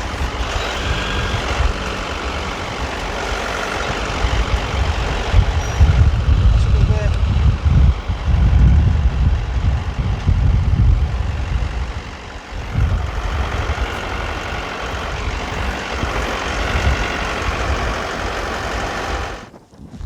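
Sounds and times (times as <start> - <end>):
tractor diesel engine running: 0.0 - 19.6.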